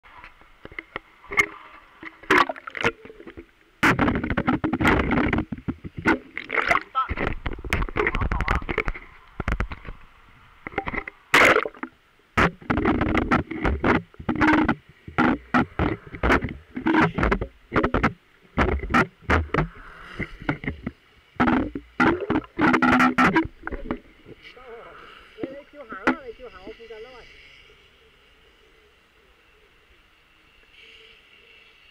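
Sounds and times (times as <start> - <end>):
water sloshing and gurgling: 0.0 - 29.2.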